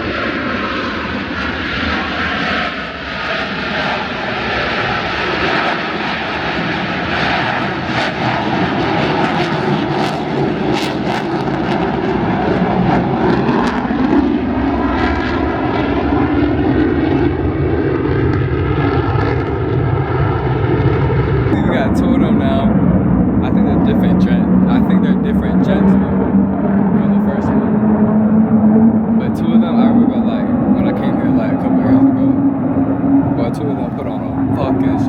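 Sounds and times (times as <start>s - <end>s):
jet engines roaring overhead: 0.0s - 35.0s.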